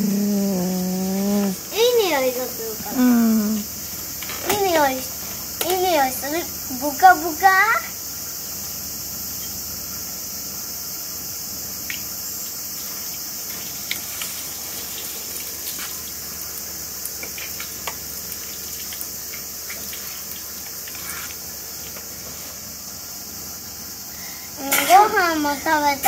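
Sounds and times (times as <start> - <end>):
insect chorus hissing: 0.0 - 26.0.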